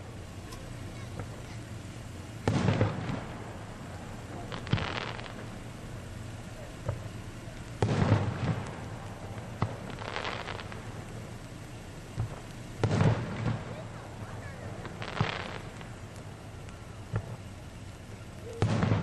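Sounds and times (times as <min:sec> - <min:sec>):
firework booms: 0:00.0 - 0:19.0
firework sharp crack: 0:00.0 - 0:19.0.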